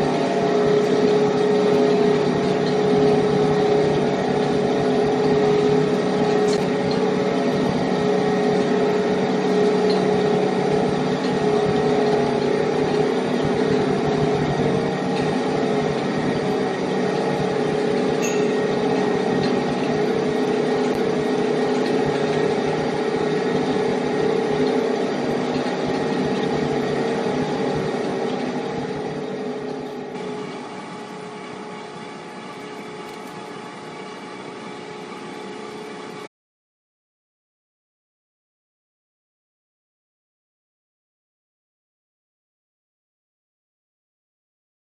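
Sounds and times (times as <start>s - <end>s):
heavy machine humming: 0.0s - 36.3s.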